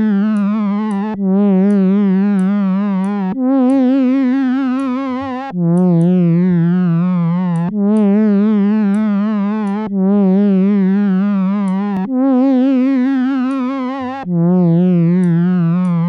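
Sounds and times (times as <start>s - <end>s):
synthesizer pad with vibrato: 0.0s - 16.0s.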